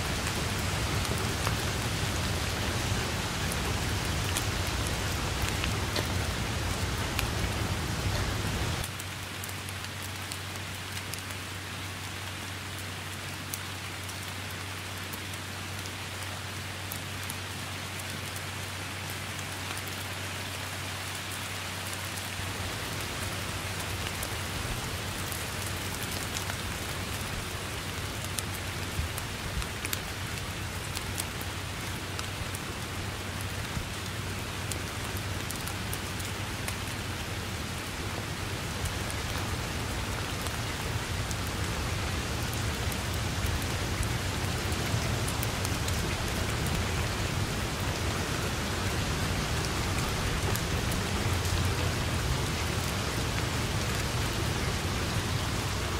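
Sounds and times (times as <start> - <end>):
heavy rain on foliage: 0.0 - 55.9.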